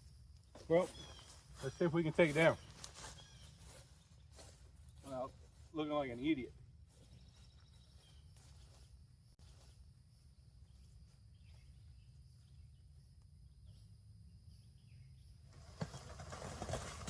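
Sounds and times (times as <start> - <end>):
distant bird chirps: 0.0 - 17.0.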